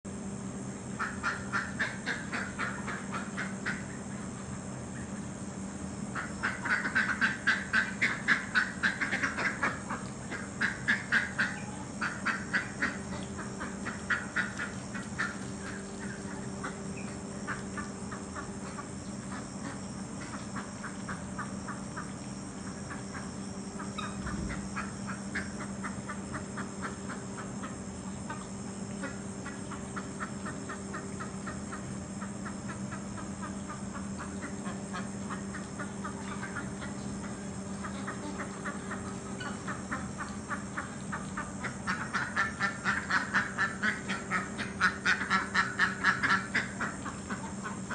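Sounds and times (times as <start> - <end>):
steady low hum: 0.0 - 47.9
ducks quacking: 0.9 - 4.4, 6.1 - 47.9.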